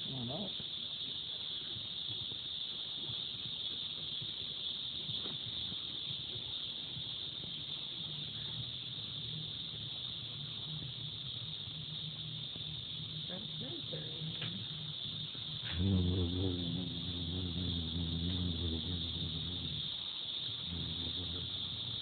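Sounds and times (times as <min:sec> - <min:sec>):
high-pitched insect chorus: 0:00.0 - 0:22.0
low hum: 0:03.6 - 0:22.0.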